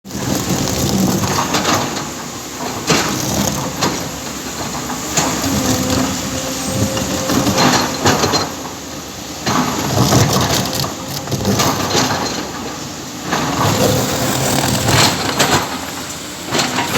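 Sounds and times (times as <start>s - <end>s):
excavator diesel engine running: 0.1s - 16.9s.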